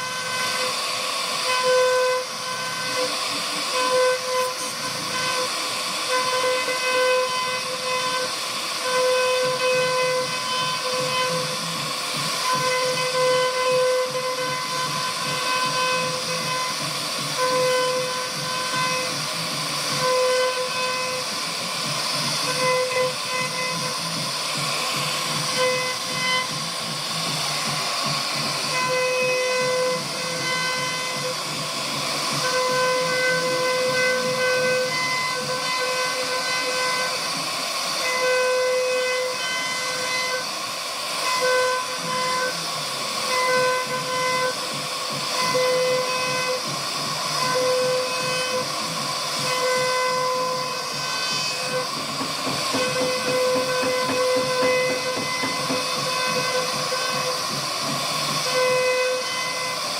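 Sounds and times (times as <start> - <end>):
bit cutting wood hiss: 0.0 - 59.9
router spindle whining: 0.0 - 59.9.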